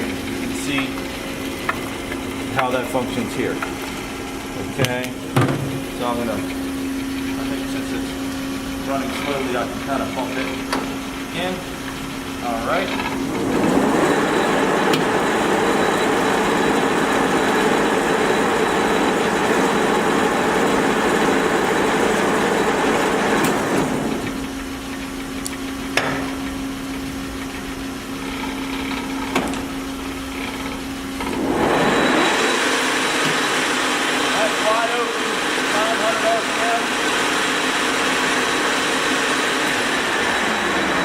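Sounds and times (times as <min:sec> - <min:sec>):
lathe gear train whirring: 0:00.0 - 0:41.0.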